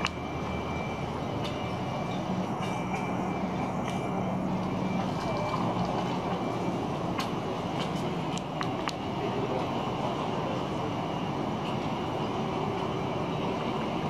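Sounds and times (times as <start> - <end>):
city street noise: 0.0 - 14.0
tram on rails: 0.0 - 14.0.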